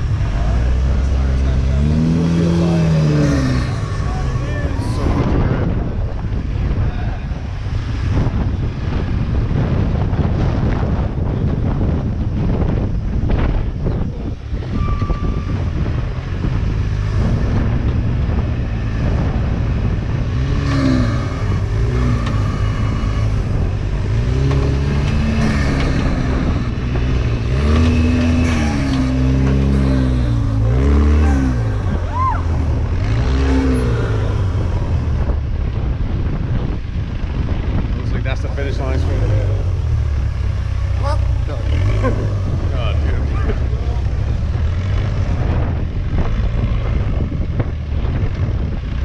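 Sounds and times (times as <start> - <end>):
engine revving: 0.0 - 6.8, 14.5 - 36.0, 36.6 - 49.0
wind buffeting microphone: 0.0 - 49.0.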